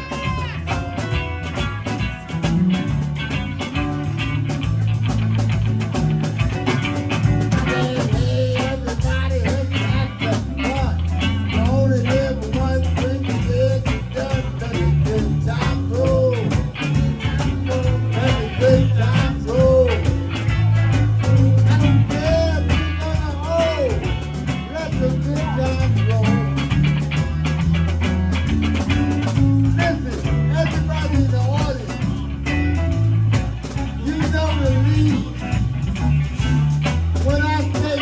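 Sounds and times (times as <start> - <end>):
blues band playing: 0.0 - 38.0
drums: 0.0 - 38.0
lead guitar bent notes: 0.0 - 38.0
walking bass line: 0.0 - 38.0.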